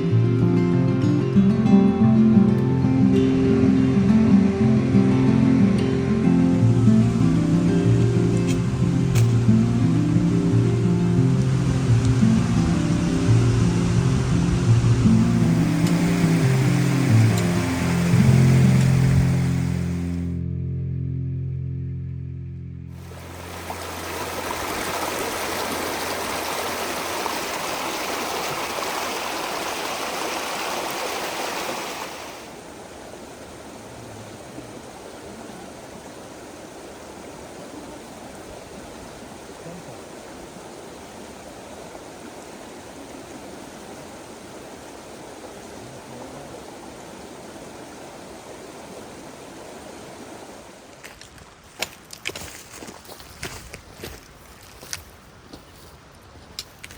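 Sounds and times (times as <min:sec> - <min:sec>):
creek water rushing: 0:00.0 - 0:20.4, 0:22.9 - 0:56.9.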